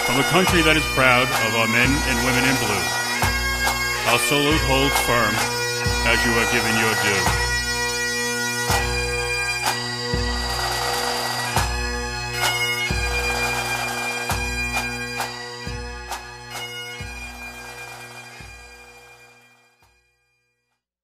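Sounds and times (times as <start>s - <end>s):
bagpipes playing a melody: 0.0s - 20.6s.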